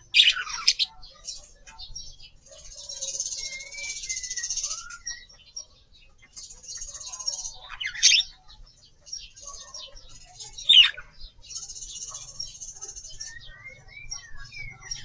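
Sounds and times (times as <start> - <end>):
birds twittering: 0.0 - 15.0
loud sweeping bird calls: 0.0 - 15.0.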